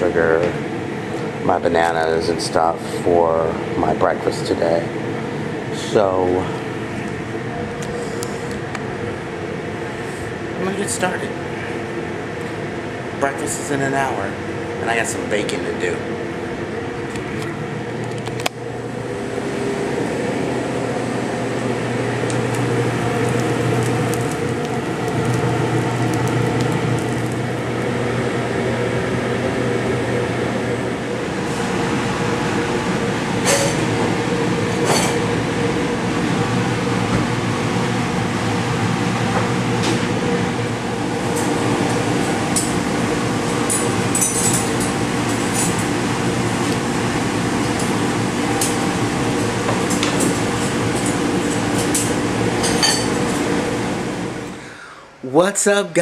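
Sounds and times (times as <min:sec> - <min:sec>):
kitchen ventilation hum: 0:00.0 - 0:56.0.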